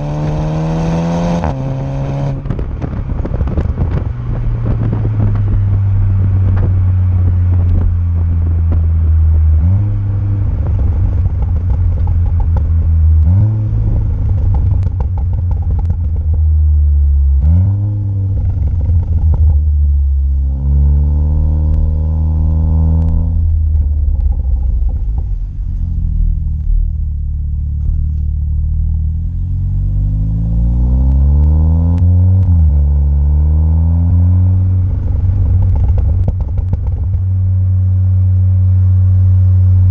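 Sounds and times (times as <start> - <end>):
car exhaust droning: 0.0 - 39.9
exhaust pops: 1.4 - 29.5, 34.2 - 38.1.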